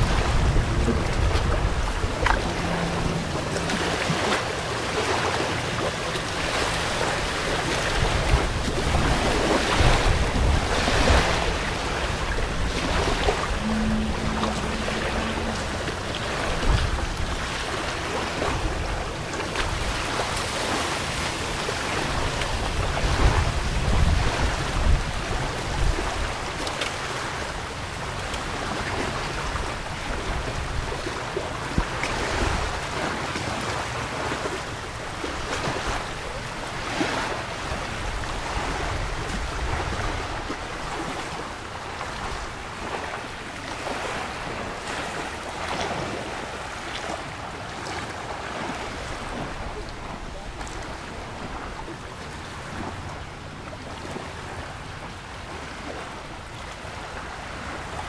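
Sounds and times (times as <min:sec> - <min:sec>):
small waves washing on shore: 0:00.0 - 0:58.0
wind: 0:00.0 - 0:58.0
wind gusts rumbling on microphone: 0:00.0 - 0:58.0.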